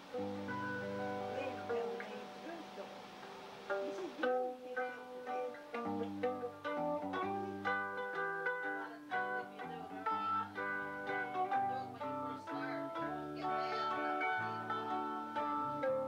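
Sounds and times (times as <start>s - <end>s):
guitar bass notes: 0.0s - 16.0s
mandolin: 0.0s - 16.0s.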